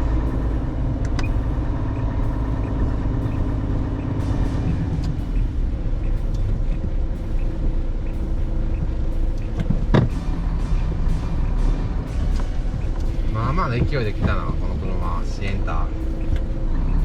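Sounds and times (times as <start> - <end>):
faint regular ticking: 0.0 - 17.0
truck diesel engine running: 0.0 - 17.0.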